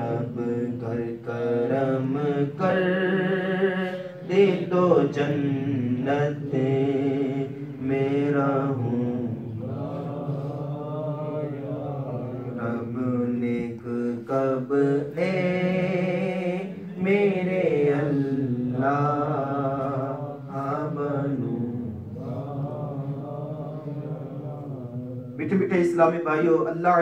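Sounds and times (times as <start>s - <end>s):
man chanting: 0.0s - 27.0s.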